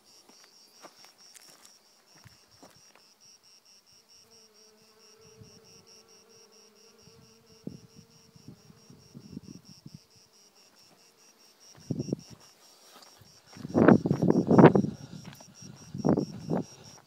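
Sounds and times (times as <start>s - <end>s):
bee buzzing: 3.2s - 17.0s.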